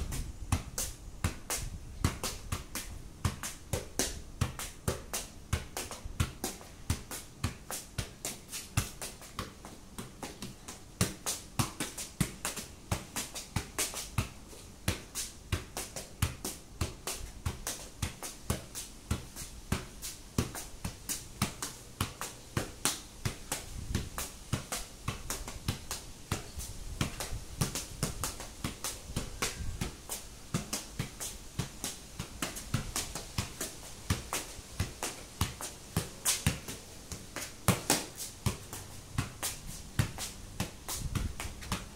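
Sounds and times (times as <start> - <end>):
football thuds: 0.0 - 41.9.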